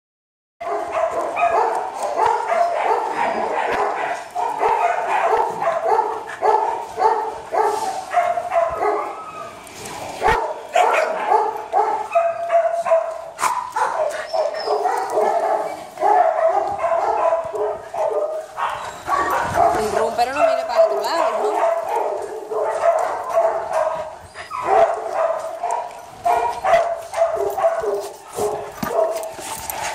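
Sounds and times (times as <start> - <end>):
dogs barking: 0.6 - 29.9.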